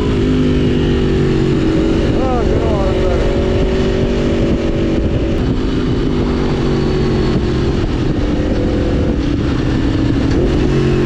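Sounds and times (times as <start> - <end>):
motorcycle engine running: 0.0 - 11.0
riding wind noise: 0.0 - 11.0.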